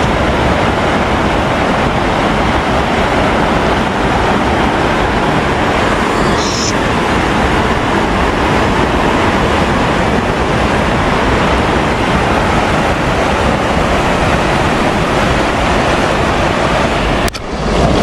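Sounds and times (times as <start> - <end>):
river water rushing over weir: 0.0 - 18.0.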